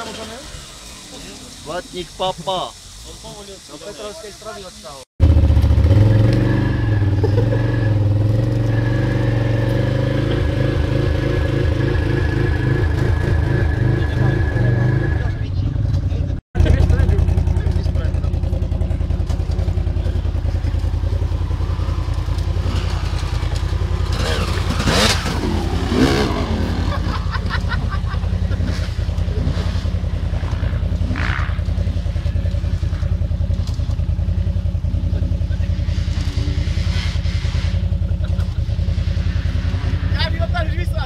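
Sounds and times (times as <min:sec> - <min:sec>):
quad bike engine idling: 0:00.0 - 0:08.6, 0:09.3 - 0:41.0.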